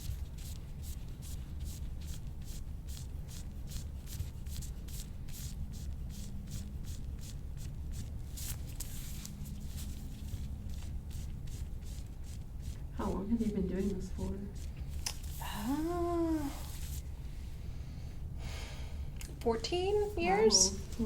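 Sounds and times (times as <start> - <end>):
hands rubbing over skin: 0.2 - 17.2.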